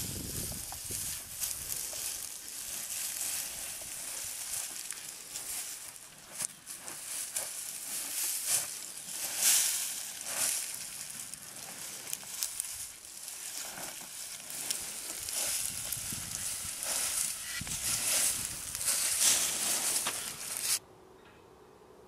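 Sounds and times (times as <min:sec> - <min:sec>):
dry grass and twigs crunching: 0:00.0 - 0:20.8.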